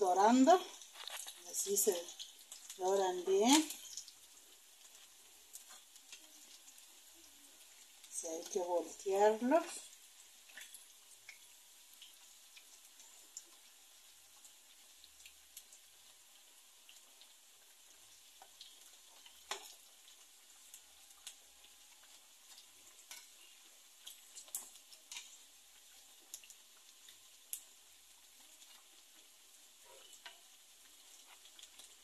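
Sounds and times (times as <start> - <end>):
food frying in hot oil: 0.0 - 32.0.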